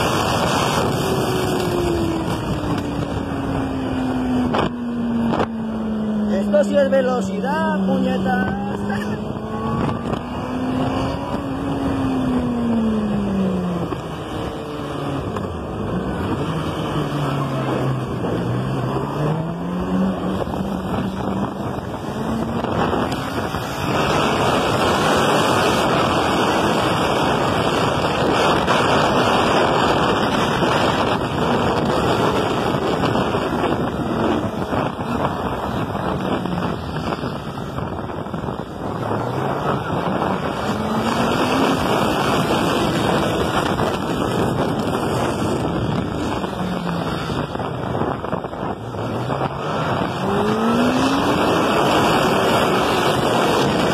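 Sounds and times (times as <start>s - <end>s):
engine running at speed: 0.0s - 53.9s
rush of wind or water: 0.0s - 53.9s.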